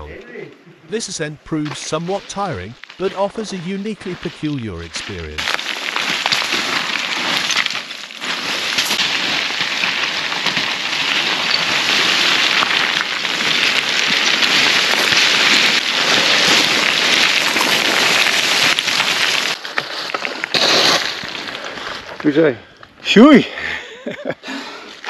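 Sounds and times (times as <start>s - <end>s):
scree crunching underfoot: 0.0s - 23.4s.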